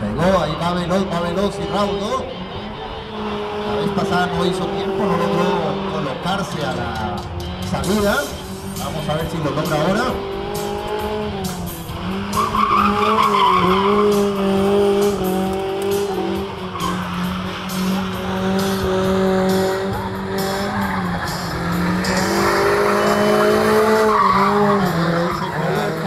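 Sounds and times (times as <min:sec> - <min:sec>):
car engine revving high: 0:00.0 - 0:26.0
tyres squealing on asphalt: 0:00.0 - 0:26.0.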